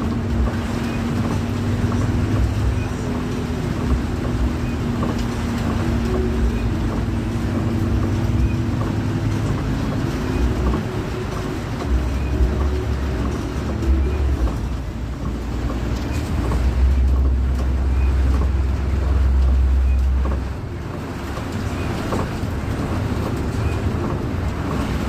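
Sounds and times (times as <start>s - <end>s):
coach engine humming: 0.0s - 25.0s
road noise: 0.0s - 25.0s.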